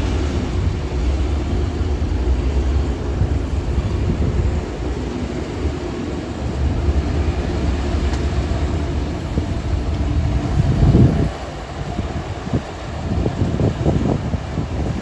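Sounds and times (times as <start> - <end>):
bulldozer diesel engine rumbling: 0.0 - 14.6.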